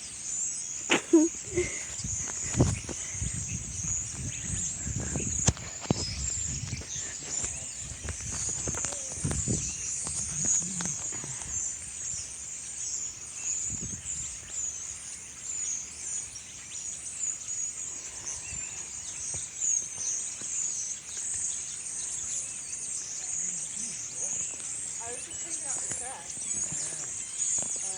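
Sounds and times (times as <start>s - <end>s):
flock of birds chirping: 0.0s - 27.9s.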